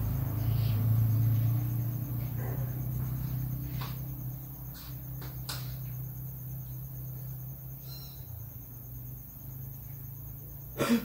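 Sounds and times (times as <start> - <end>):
high insect trill: 0.0 - 11.0
steady low hum: 0.0 - 11.0.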